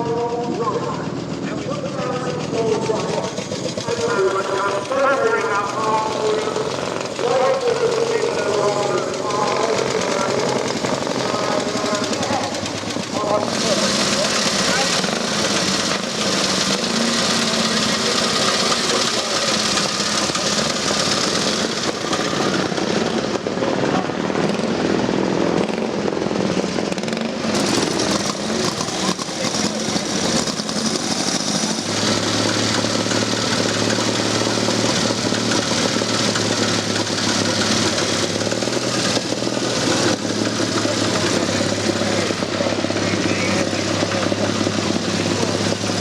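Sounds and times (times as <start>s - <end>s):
motorcycle engines running: 0.0s - 46.0s.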